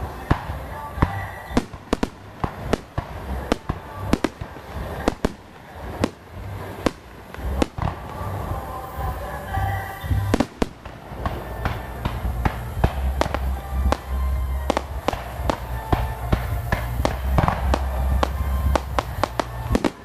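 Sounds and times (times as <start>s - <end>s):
fireworks bangs: 0.0s - 20.0s
low rumble: 0.0s - 20.0s.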